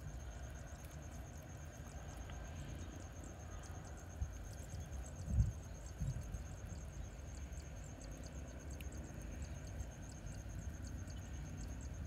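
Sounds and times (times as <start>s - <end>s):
insect trill: 0.0s - 12.0s
wind rumble on microphone: 0.0s - 12.0s.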